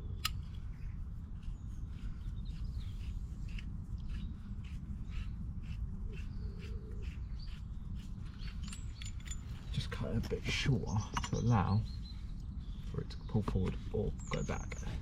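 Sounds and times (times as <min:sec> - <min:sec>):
faint bird chirps: 0:00.0 - 0:15.0
low background rumble: 0:00.0 - 0:15.0.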